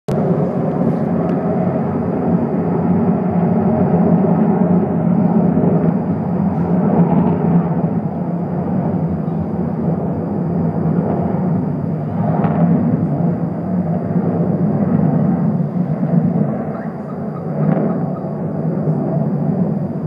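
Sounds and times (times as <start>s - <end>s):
loud low rumbling drone: 0.1s - 20.0s.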